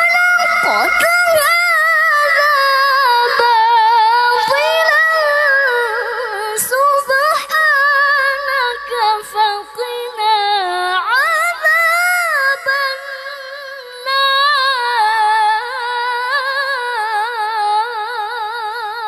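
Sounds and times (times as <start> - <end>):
woman reciting melodically: 0.0 - 19.0.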